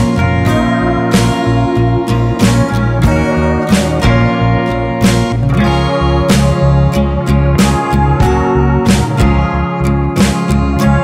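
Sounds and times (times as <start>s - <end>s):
background music with bass and beat: 0.0s - 11.0s.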